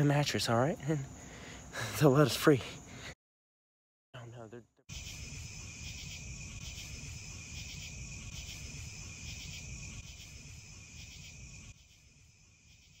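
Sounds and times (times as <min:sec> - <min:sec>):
crickets chirping: 0:00.0 - 0:03.2, 0:04.2 - 0:13.0.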